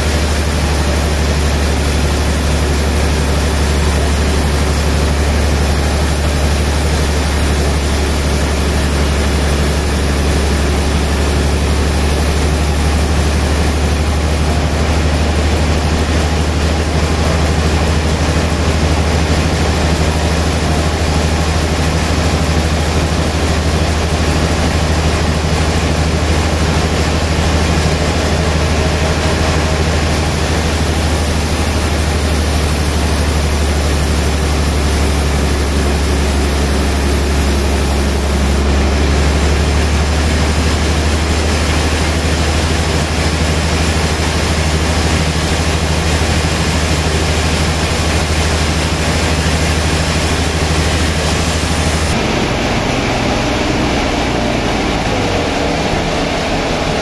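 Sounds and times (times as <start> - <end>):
band saw running: 0.0 - 57.0.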